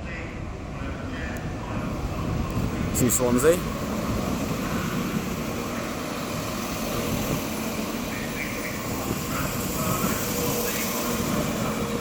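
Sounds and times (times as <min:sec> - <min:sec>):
diesel train rumble: 0:00.0 - 0:12.0.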